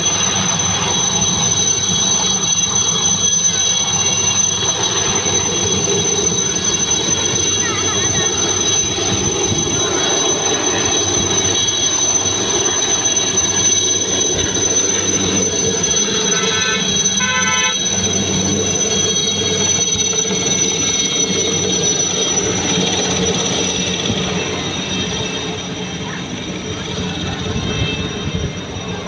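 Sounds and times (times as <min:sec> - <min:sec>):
helicopter rotor noise: 0:00.0 - 0:29.0
helicopter turbine whine: 0:00.0 - 0:29.0.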